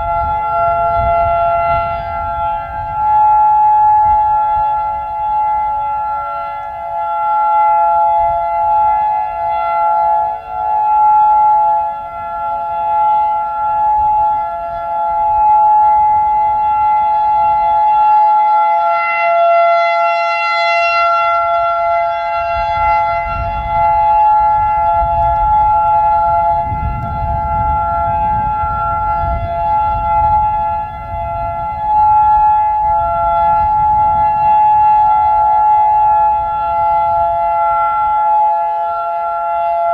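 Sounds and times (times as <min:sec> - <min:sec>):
distant sirens: 0:00.0 - 0:39.9
rotating warning siren wailing: 0:00.0 - 0:39.9
wind rumbling on microphone: 0:00.0 - 0:39.9.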